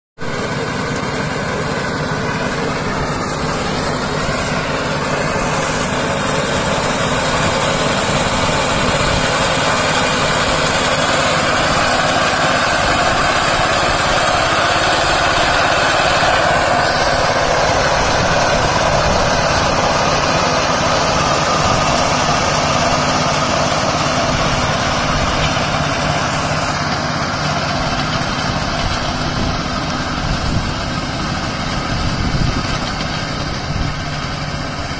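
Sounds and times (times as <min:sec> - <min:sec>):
small engine running under load: 0:00.2 - 0:34.9.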